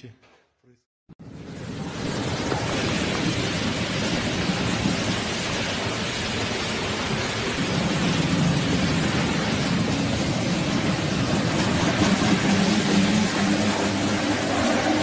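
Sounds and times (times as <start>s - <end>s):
car wash water spray and brushes: 1.2s - 15.0s.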